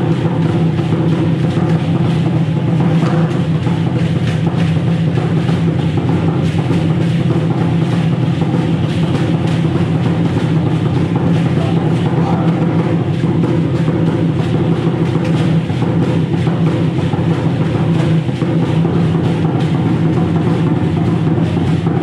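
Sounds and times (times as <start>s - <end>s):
loud drumming on large drums: 0.0s - 22.0s.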